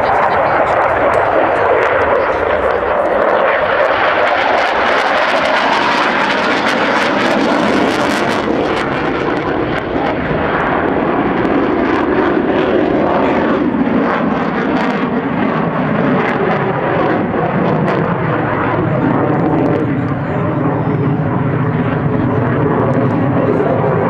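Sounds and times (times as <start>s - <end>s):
fighter jet engine roaring: 0.0s - 24.0s.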